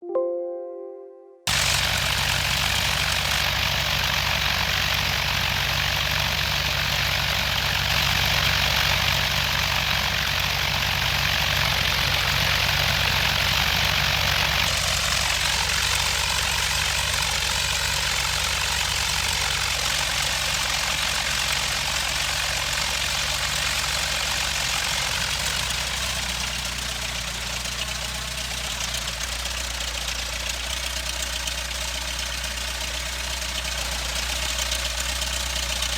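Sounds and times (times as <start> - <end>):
light aircraft engine and propeller: 1.5 - 35.9.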